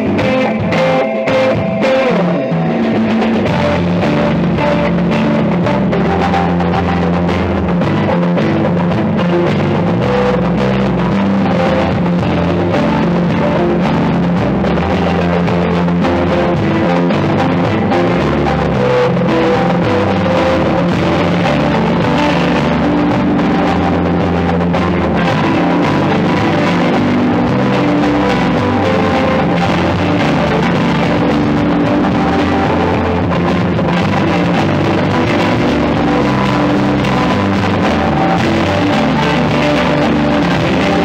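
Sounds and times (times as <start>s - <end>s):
drum kit: 0.0s - 41.0s
electric guitar: 0.0s - 41.0s
low bass line: 0.0s - 41.0s.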